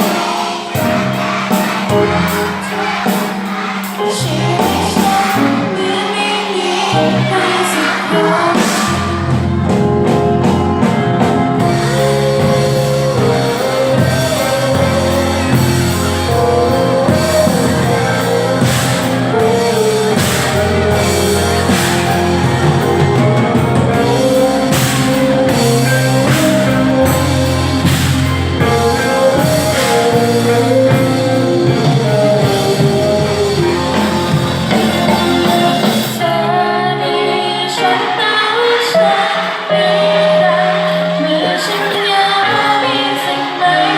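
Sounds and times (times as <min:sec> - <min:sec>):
band with bass guitar and drums: 0:00.0 - 0:43.9
person singing: 0:00.0 - 0:43.9.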